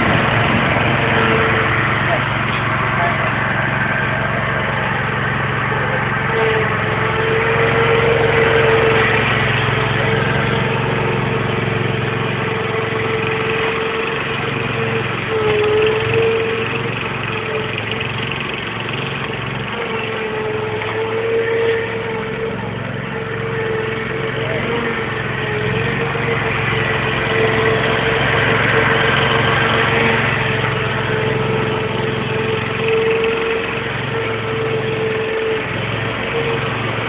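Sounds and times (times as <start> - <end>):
lawn mower engine running: 0.0 - 37.0.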